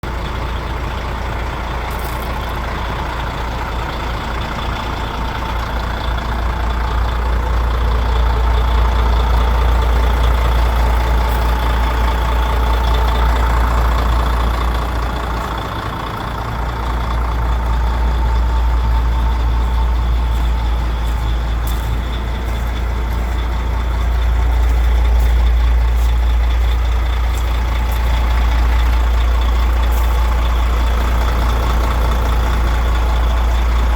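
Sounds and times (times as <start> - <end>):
truck diesel engine running: 0.0 - 33.9.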